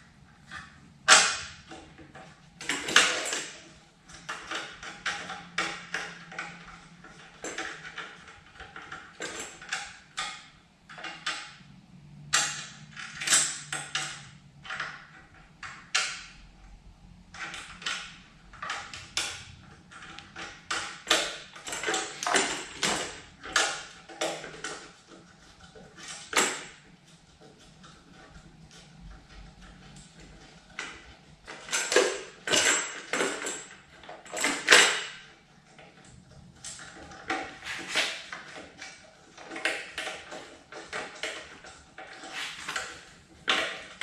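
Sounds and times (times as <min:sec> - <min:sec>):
metal parts clinking and scraping: 0:00.6 - 0:11.6, 0:12.3 - 0:16.3, 0:17.3 - 0:44.0.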